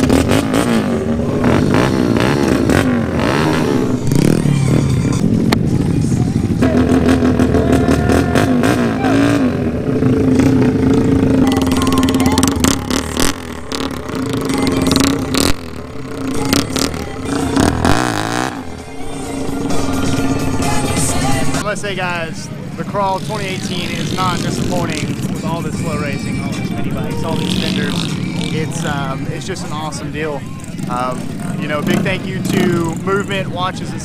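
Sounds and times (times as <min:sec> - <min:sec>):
motorcycle exhausts revving: 0:00.0 - 0:34.0.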